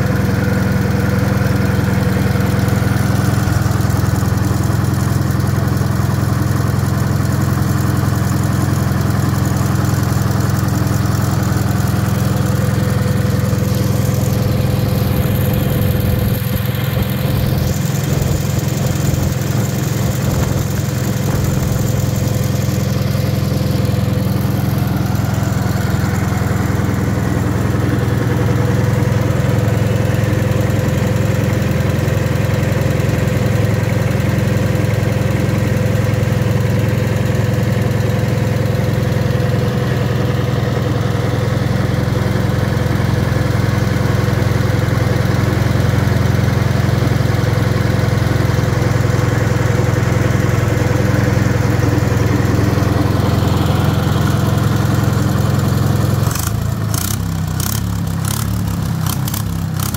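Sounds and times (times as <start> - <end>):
air-cooled engine running: 0.0 - 59.9.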